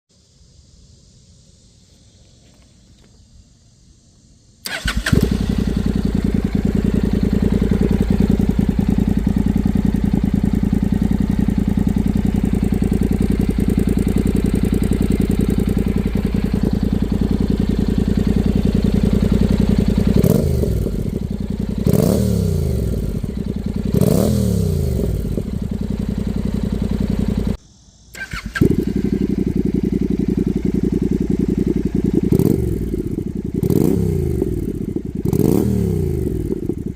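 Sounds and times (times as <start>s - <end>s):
motorcycle engine idling and revving: 4.7s - 36.9s.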